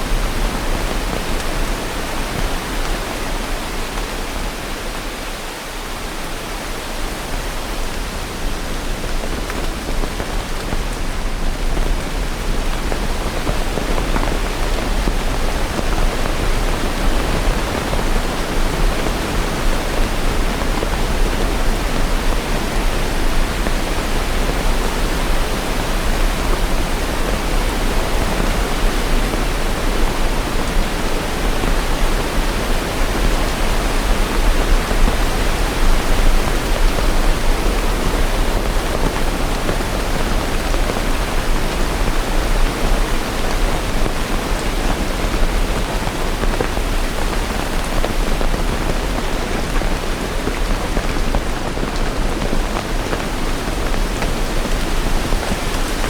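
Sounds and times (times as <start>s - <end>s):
steady heavy rain: 0.0s - 56.0s.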